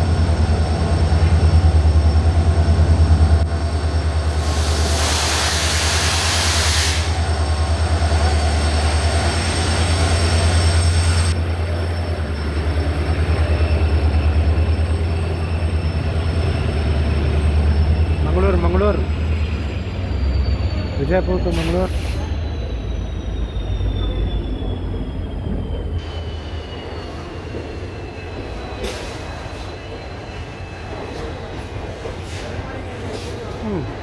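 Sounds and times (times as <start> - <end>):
train hissing: 0.0 - 34.0
train rumbling: 0.0 - 34.0.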